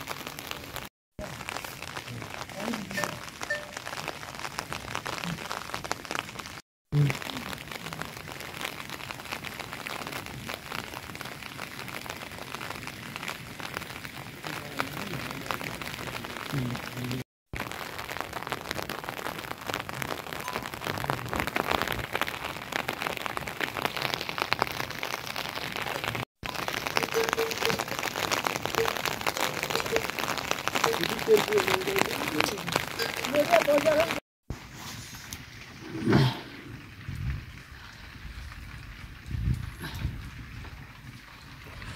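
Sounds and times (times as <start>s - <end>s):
steady rain pattering: 0.0s - 41.9s.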